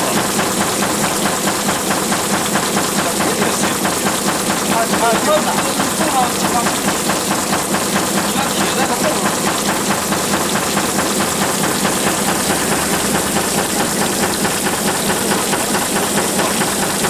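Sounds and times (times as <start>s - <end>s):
machine drive head knocking: 0.0s - 17.0s.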